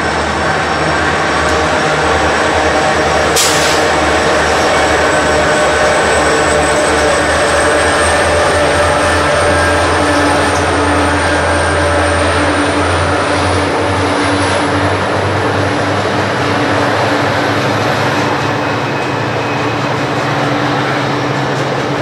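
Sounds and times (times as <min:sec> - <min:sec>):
freight train rumbling over bridge: 0:00.0 - 0:22.0.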